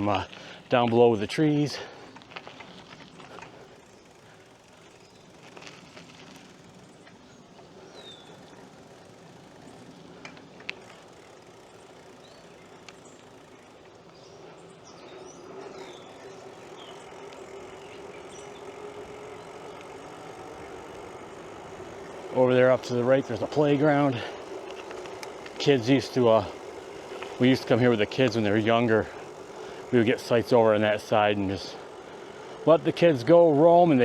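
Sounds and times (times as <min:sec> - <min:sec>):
bicycle tyres rolling: 0:00.0 - 0:34.0
birds chirping: 0:00.0 - 0:34.0
faint engine hum: 0:00.0 - 0:34.0.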